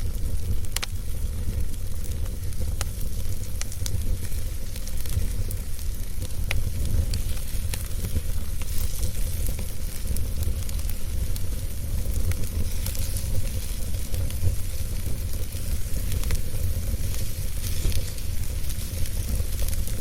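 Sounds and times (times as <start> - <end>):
fireplace crackling: 0.0 - 20.0.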